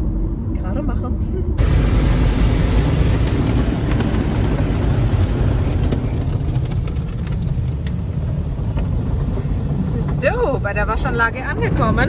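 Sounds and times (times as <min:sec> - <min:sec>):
car wash water spray and machinery: 0:01.6 - 0:12.0.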